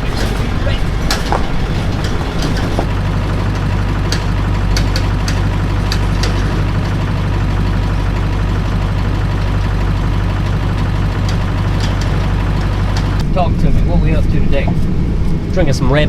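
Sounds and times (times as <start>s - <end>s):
vehicle engine humming: 0.0s - 15.7s.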